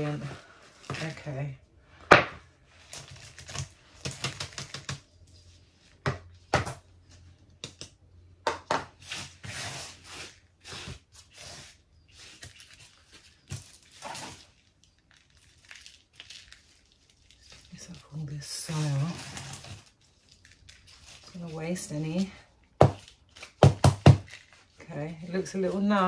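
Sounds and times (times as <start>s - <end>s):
hands working potting soil: 0.0s - 6.4s, 8.9s - 16.1s, 17.4s - 26.0s.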